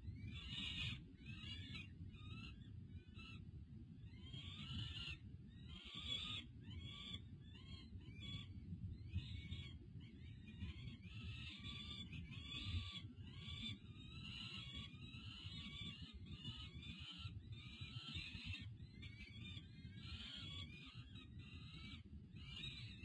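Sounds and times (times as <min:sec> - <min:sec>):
falcon chicks begging calls: 0:00.2 - 0:03.4, 0:04.1 - 0:23.0.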